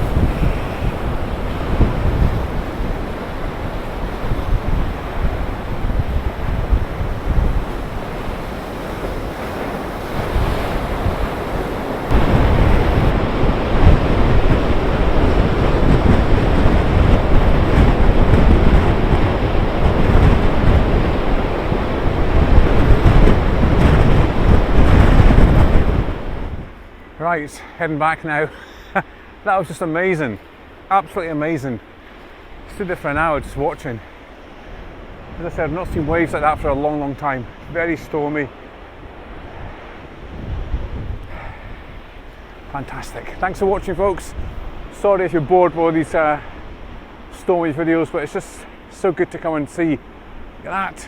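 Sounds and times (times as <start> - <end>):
wind buffeting microphone: 0.0 - 27.0, 31.5 - 48.0
storm waves breaking on shore: 0.0 - 51.0.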